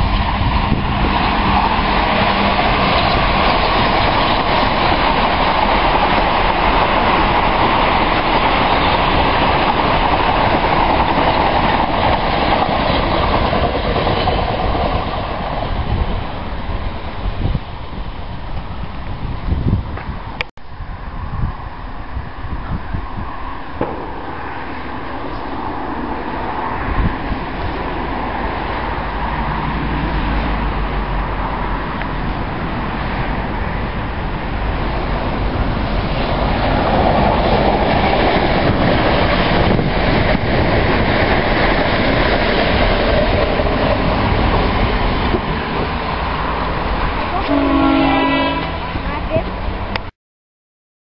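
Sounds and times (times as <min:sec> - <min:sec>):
train rumble and wheel noise: 0:00.0 - 0:50.1.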